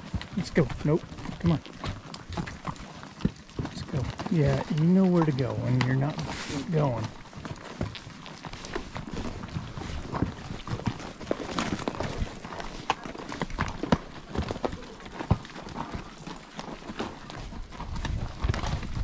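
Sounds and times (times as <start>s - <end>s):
horse hooves clopping on stony trail: 0.0s - 19.0s.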